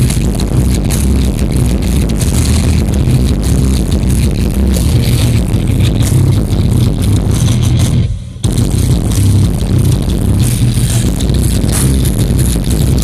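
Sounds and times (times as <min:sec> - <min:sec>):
bass-heavy music in a car: 0:00.0 - 0:13.0.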